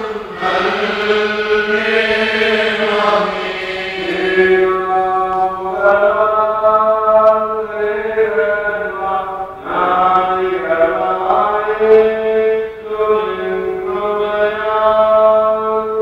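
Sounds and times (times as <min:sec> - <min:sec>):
clergy chanting: 0:00.0 - 0:16.0.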